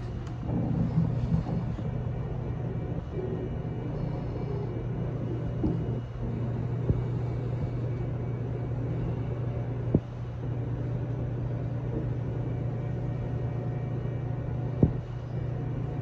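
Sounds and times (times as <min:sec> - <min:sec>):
train car rumble and hum: 0:00.0 - 0:16.0.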